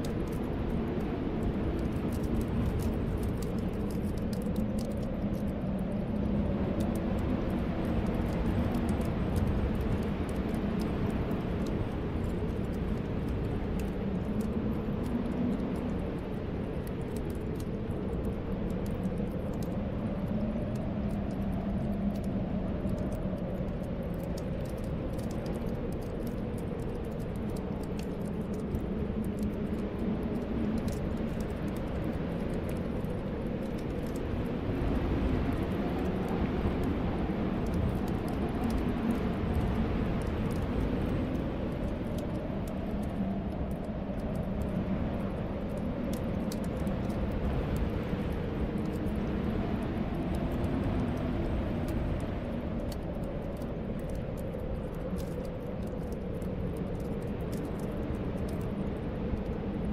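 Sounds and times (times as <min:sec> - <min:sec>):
whistling storm wind: 0:00.0 - 0:59.9.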